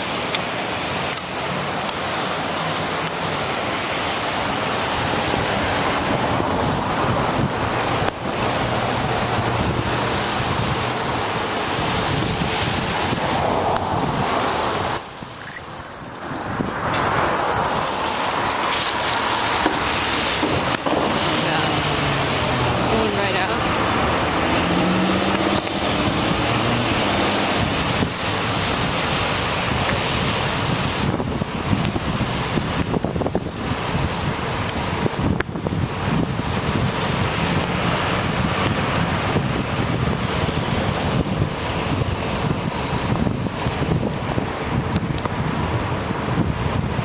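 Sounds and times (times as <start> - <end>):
low vehicle hum: 0.1 - 47.0
wind rushing over microphone: 3.1 - 47.0.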